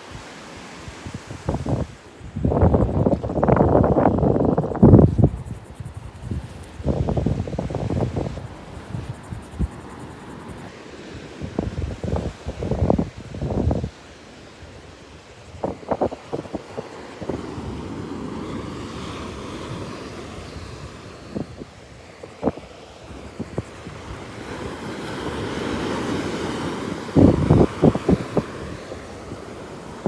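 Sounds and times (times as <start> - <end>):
ocean surf washing on beach: 0.0 - 30.0
wind buffeting microphone: 0.1 - 14.0, 14.6 - 30.0.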